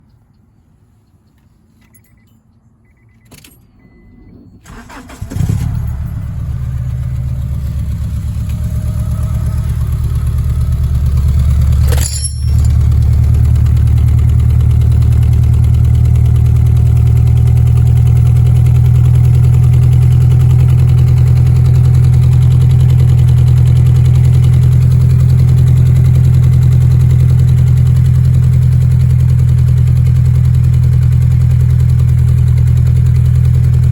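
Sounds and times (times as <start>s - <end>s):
car engine starting and idling: 2.9s - 33.9s.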